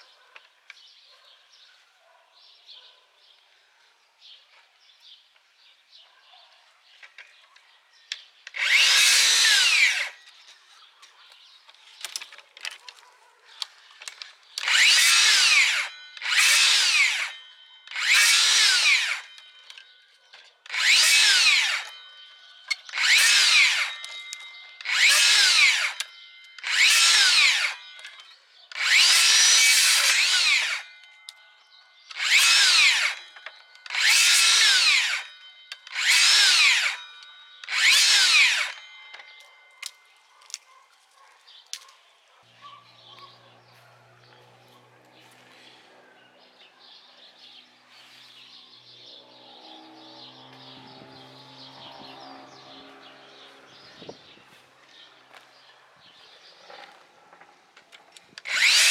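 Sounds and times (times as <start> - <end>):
circular saw cutting branches: 7.0 - 58.9.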